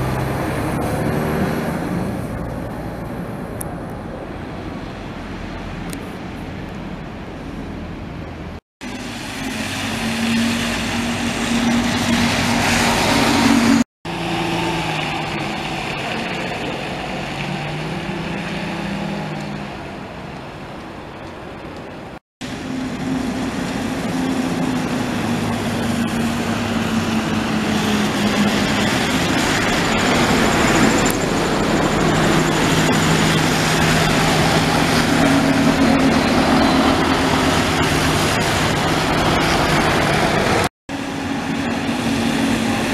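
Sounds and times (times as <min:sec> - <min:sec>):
diesel buses pulling away: 0:00.0 - 0:05.8, 0:08.8 - 0:42.9.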